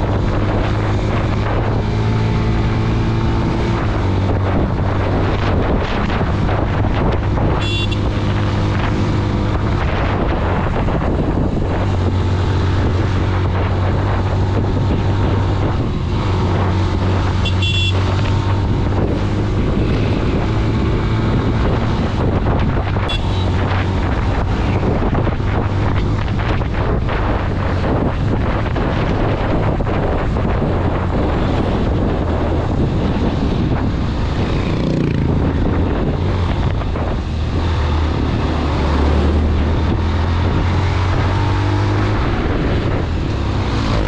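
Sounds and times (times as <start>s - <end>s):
motorcycle engine running: 0.0s - 38.4s
wind buffeting microphone: 0.0s - 44.0s.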